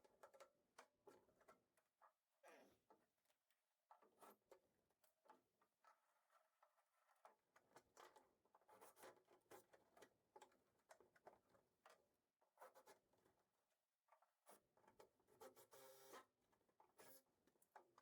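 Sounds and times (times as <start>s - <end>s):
faint clicking and scratching: 0.0s - 18.0s.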